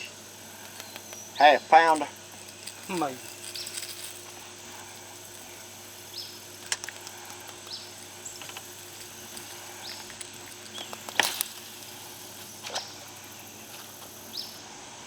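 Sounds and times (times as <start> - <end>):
bird chirping: 0.0 - 14.6
sharp clicks: 0.6 - 12.9.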